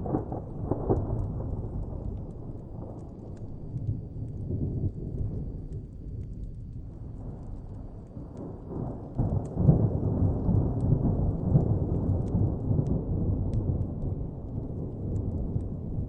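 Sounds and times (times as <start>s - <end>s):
fire crackling: 0.0s - 16.0s
thunder rumbling: 0.0s - 16.0s.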